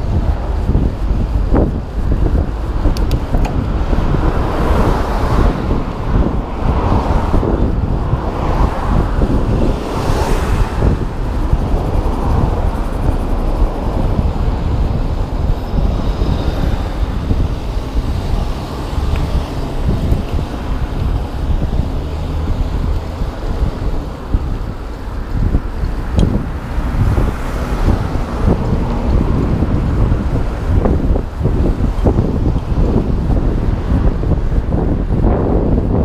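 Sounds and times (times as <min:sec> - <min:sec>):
road and traffic noise: 0:00.0 - 0:36.0
wind buffeting microphone: 0:00.0 - 0:36.0.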